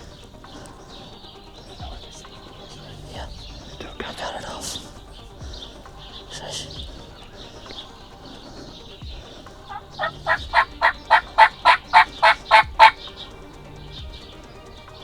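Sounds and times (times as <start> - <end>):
turkey yelps: 0.0 - 13.8
faint songbird chatter: 0.0 - 15.0.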